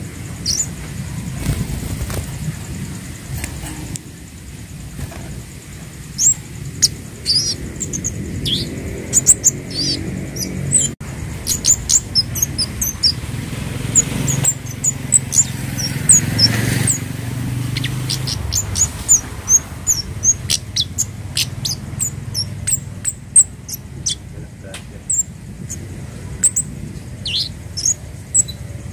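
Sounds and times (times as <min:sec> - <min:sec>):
bird high-pitched chips: 0:00.0 - 0:02.4, 0:05.0 - 0:24.3, 0:25.0 - 0:25.8, 0:26.4 - 0:28.9
low steady rumble: 0:00.0 - 0:28.9.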